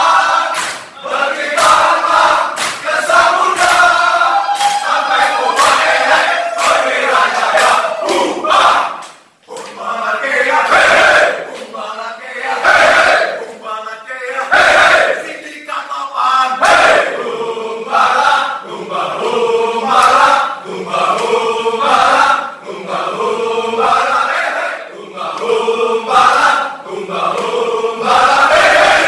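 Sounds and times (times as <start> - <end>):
men chanting in unison: 0.0 - 29.0.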